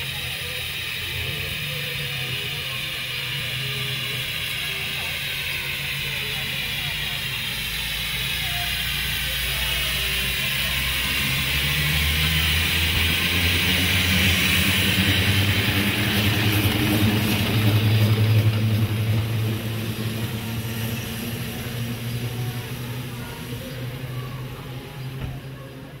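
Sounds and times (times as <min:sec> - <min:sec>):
steam bus rumbling and hissing: 0:00.0 - 0:26.0.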